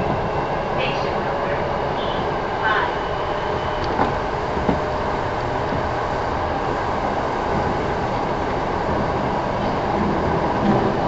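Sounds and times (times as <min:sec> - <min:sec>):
electric train rolling rumble: 0:00.0 - 0:11.0.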